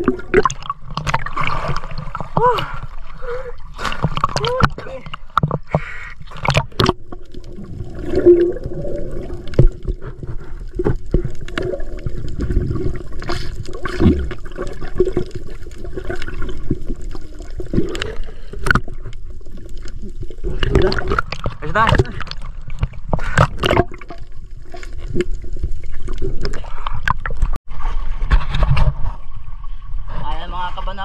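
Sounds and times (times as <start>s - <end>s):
water gurgling underwater: 0.0s - 29.7s.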